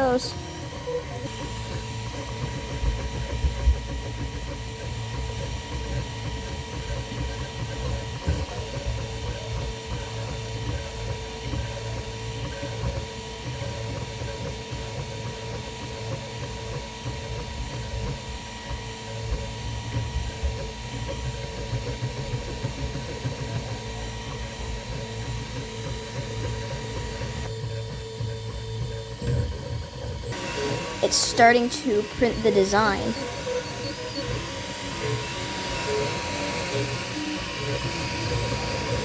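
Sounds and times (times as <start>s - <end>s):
printer motor hum: 0.0s - 39.0s.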